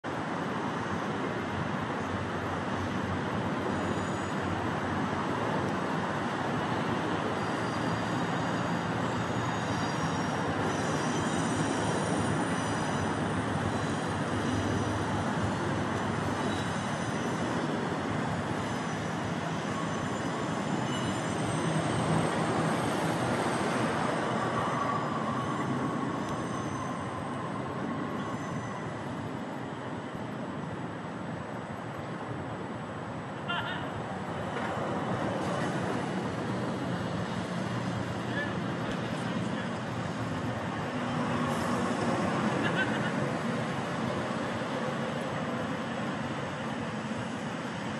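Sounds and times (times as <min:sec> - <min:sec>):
urban background rumble: 0:00.0 - 0:47.9.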